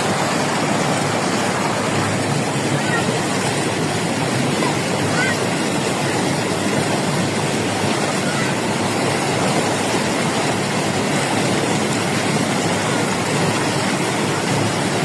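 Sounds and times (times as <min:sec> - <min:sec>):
water rushing over spillway: 0:00.0 - 0:15.0.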